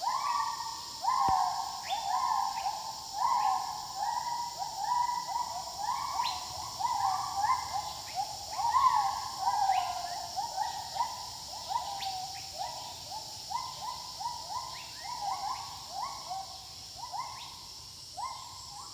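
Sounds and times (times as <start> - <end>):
gibbons hooting in chorus: 0.0 - 17.4
high insect hum: 0.0 - 18.9.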